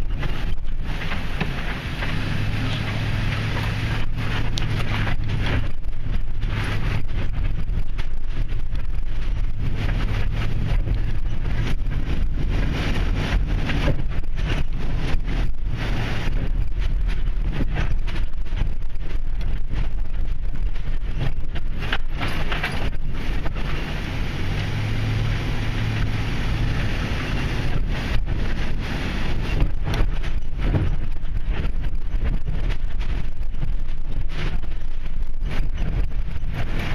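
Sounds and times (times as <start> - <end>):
engine and road rumble in cabin: 0.0 - 36.9
knocks and rattles: 0.0 - 36.9.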